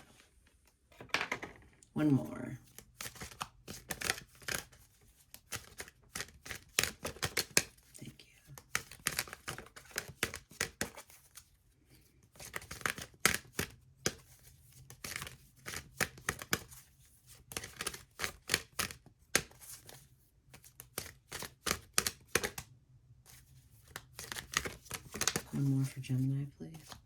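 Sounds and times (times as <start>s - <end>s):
cards being shuffled: 2.6s - 11.5s, 12.2s - 22.7s, 23.3s - 27.0s.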